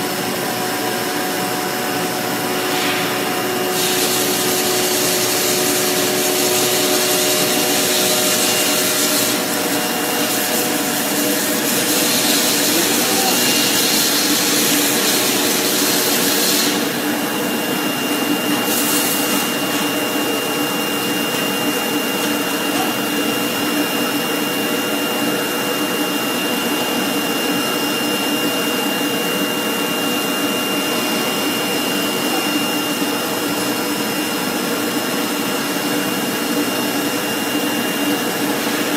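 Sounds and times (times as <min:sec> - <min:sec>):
foam cutting machine whirring: 0:00.0 - 0:38.9.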